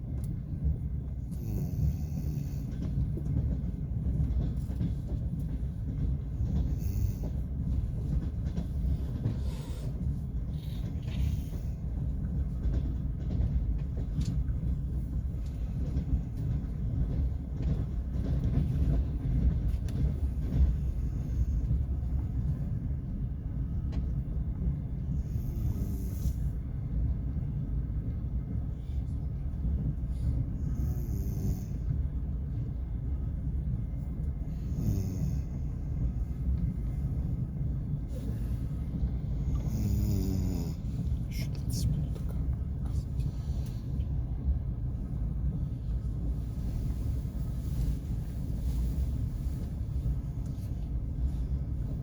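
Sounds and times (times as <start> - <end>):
train carriage rumbling: 0.0 - 52.0.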